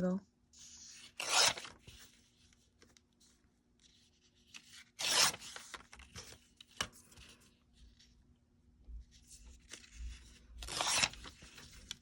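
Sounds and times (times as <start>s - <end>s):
paper rustling: 0.6s - 8.2s, 9.1s - 12.0s.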